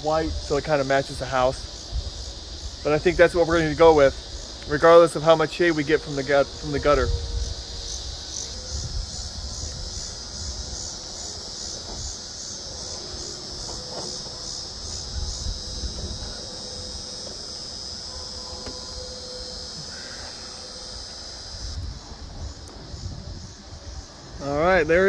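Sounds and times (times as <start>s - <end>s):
constant high buzz: 0.0s - 25.0s
insects chirping: 0.0s - 25.0s.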